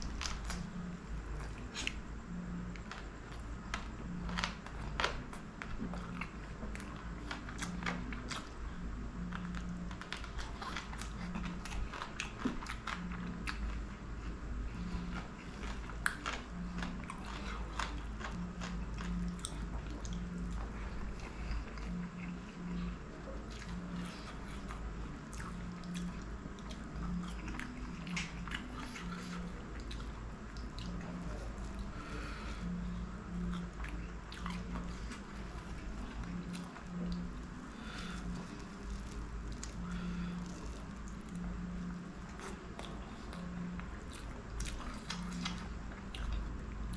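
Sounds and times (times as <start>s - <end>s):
man chewing with mouth sounds: 0.0s - 46.9s.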